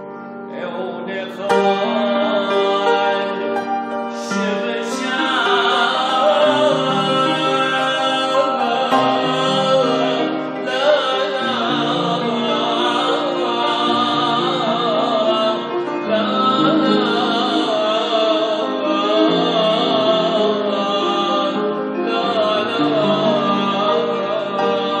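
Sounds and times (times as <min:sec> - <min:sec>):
keyboard chords: 0:00.0 - 0:25.0
man singing a hymn: 0:00.5 - 0:25.0.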